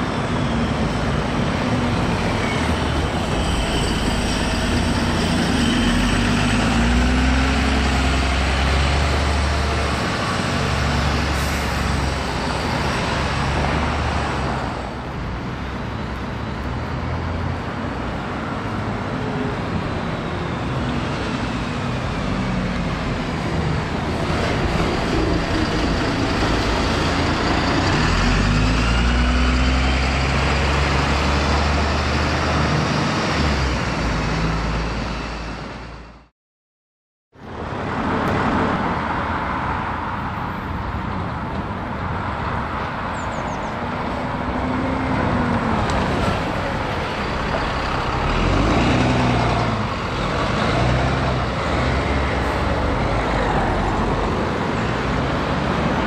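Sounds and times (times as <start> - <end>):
bus diesel engine: 0.0 - 36.3, 37.4 - 56.0
street traffic: 0.0 - 36.3, 37.3 - 56.0.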